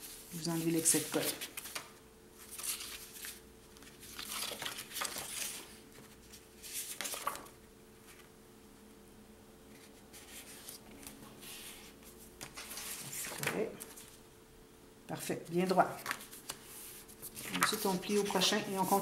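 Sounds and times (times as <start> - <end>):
paper rustling and rubbing: 0.0 - 8.3, 9.7 - 14.2, 16.0 - 19.0.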